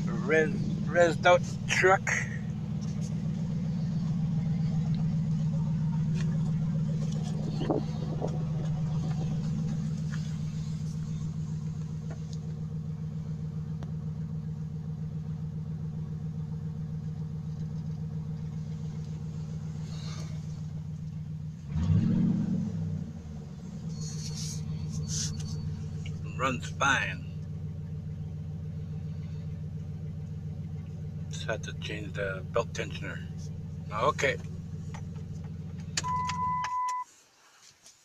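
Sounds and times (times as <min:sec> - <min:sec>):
engine throttle rev: 0:00.0 - 0:36.6
truck engine idling: 0:00.0 - 0:37.0.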